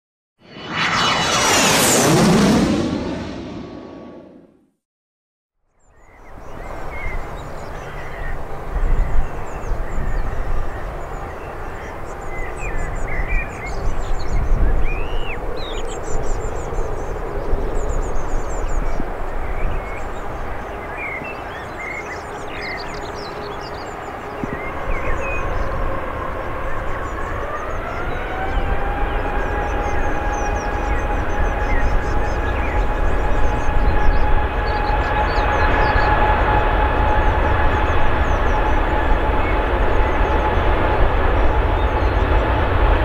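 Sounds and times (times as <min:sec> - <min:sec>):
jet engine rumble: 0:00.4 - 0:04.8, 0:06.7 - 0:43.0.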